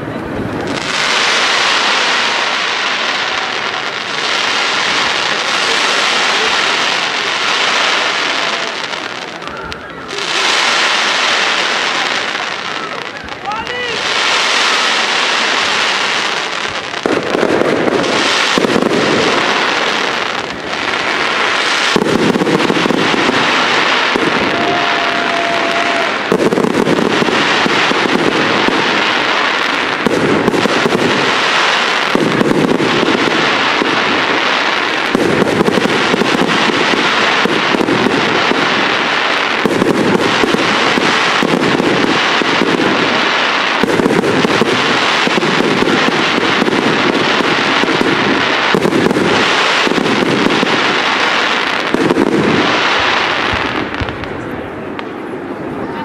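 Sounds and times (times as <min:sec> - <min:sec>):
fireworks crackling and popping: 0:00.0 - 0:56.0.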